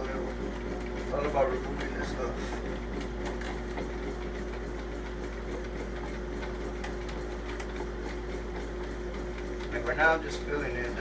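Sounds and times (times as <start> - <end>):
electric drain snake motor humming: 0.0 - 11.0
spinning cable ticking: 0.0 - 11.0.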